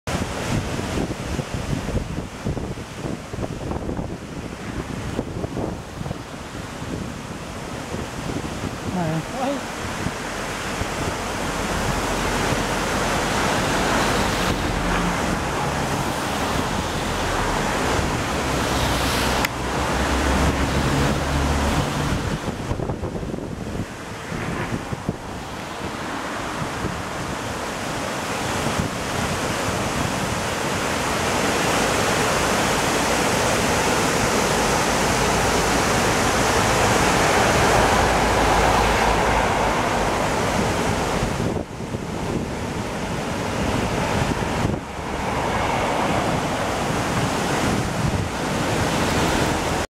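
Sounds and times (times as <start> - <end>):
water rushing over weir: 0.1 - 49.9.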